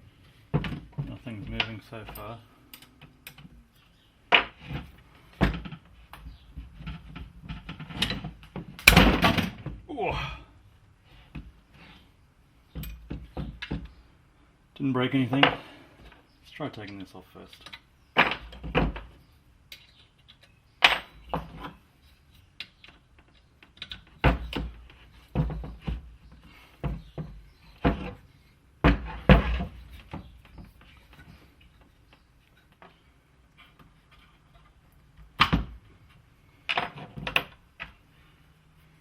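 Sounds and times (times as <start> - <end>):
knocks and clunks of parts: 0.2 - 3.6, 4.3 - 9.9, 12.7 - 14.0, 16.8 - 38.0.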